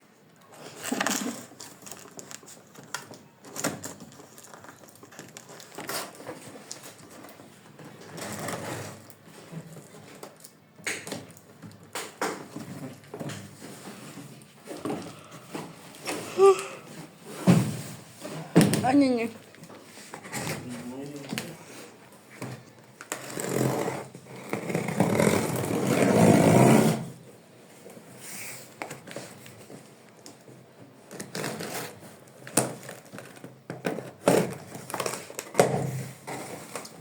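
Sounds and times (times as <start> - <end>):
packaging rustling and crinkling: 0.4 - 23.5, 27.6 - 37.0.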